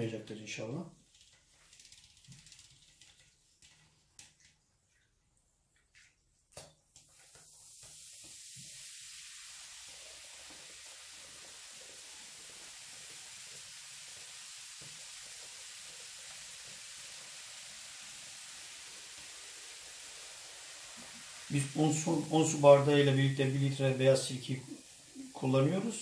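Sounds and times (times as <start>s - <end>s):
baking soda fizzing: 0.0s - 26.0s.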